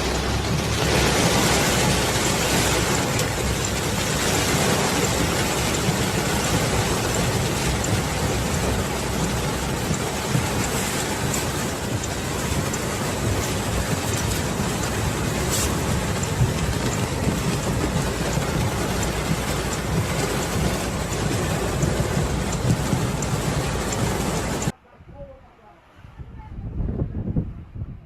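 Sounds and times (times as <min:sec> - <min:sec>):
heavy rain rushing: 0:00.0 - 0:24.7
wind rumble: 0:00.0 - 0:28.0.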